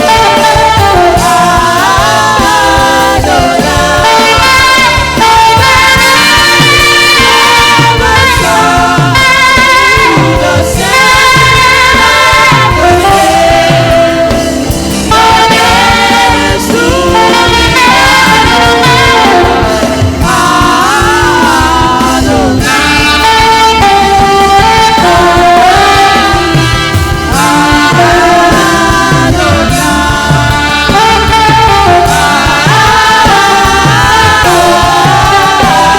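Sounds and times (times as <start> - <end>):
band with drums and bass: 0.0 - 35.9
saxophone melody: 0.0 - 35.9
singing: 0.0 - 35.9.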